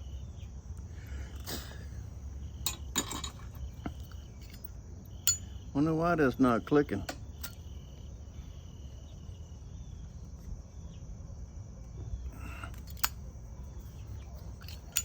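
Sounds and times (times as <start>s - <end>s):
faint chirps: 0.0s - 15.0s
low background hum: 0.0s - 15.0s.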